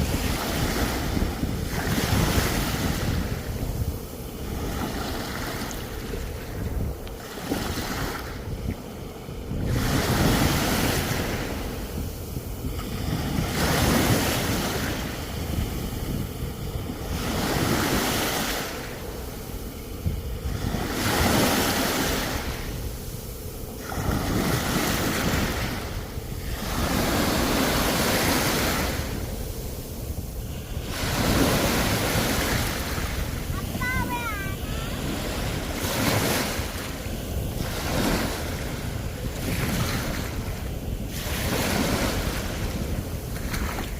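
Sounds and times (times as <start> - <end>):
sea waves breaking on shore: 0.0 - 43.9
wind rumbling on microphone: 0.0 - 43.9.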